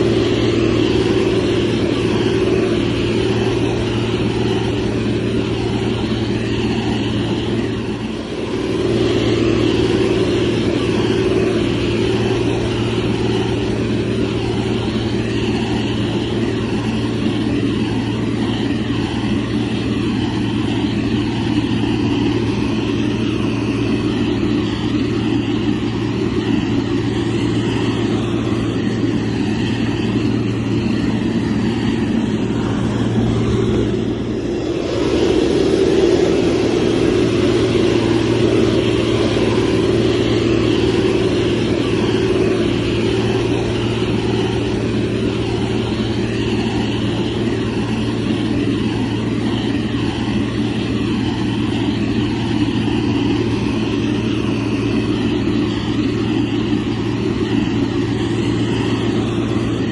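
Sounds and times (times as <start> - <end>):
diesel engine low hum: 0.0 - 59.9.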